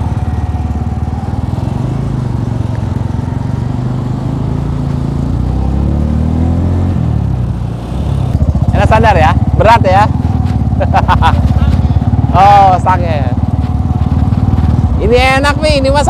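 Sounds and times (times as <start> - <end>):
motorcycle engines riding off: 0.0 - 16.0.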